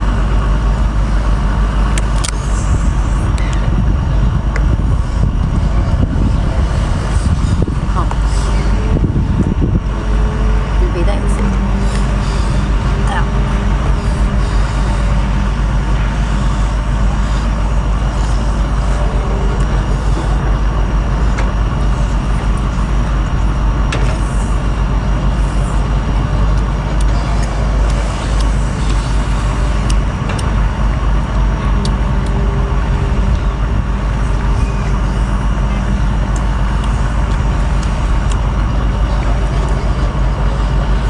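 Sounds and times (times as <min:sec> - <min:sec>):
loud low rumble: 0:00.0 - 0:41.0.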